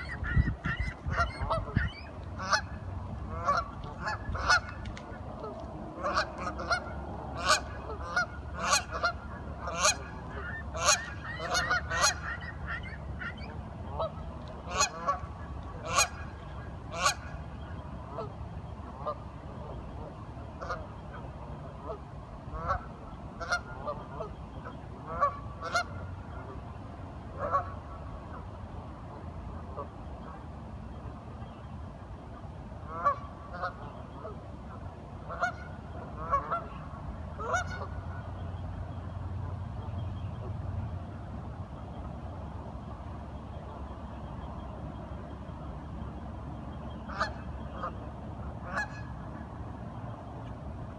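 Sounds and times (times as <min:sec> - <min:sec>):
flock of waterfowl calling: 0:00.0 - 0:30.4, 0:32.3 - 0:42.2, 0:43.0 - 0:50.2.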